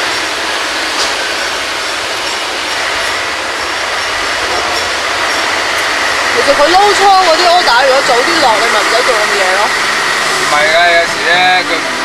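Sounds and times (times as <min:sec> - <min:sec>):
trucks running: 0:00.0 - 0:12.0.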